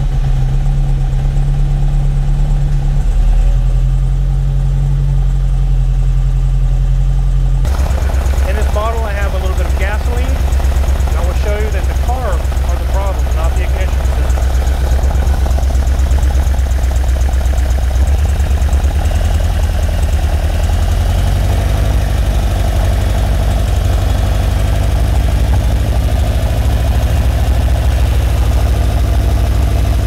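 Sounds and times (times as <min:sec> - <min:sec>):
car engine idling unevenly: 0:00.0 - 0:30.0.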